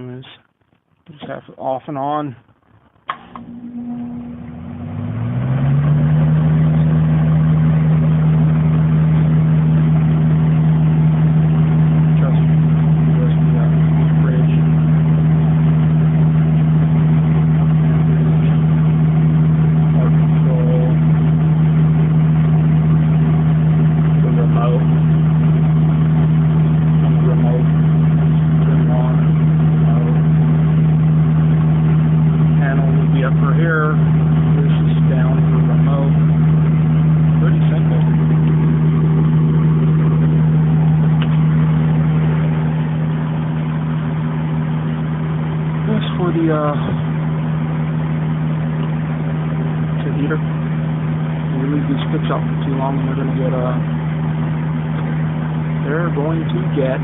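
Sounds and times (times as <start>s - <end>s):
machine humming: 0.0s - 57.0s.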